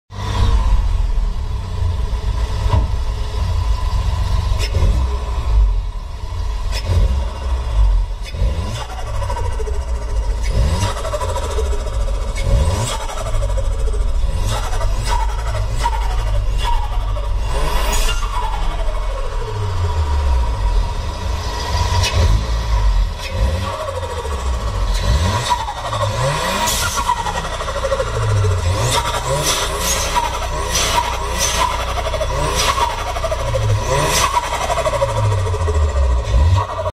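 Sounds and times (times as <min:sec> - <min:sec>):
car engine exhaust rumble: 0:00.1 - 0:36.9
engine revving: 0:00.1 - 0:36.9.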